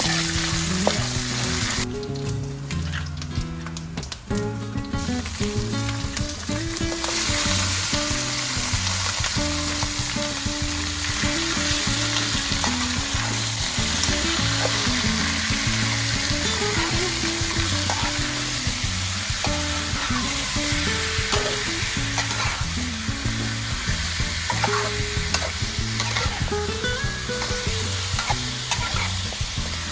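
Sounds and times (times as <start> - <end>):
food sizzling in a pan: 0.0 - 29.9.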